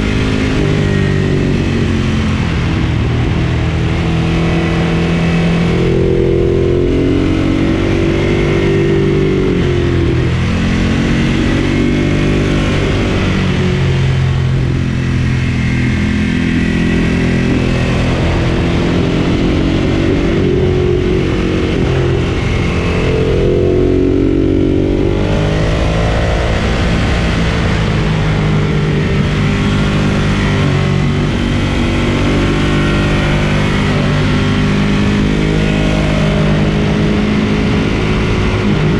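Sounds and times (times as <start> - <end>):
motorcycle engine revving under load: 0.0 - 38.9.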